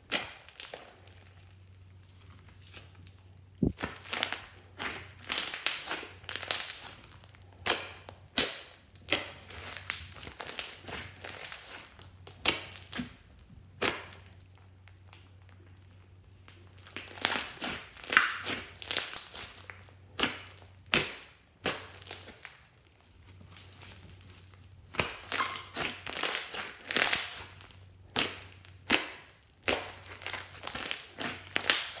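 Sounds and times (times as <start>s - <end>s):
slime squelching and crackling: 0.0s - 32.0s.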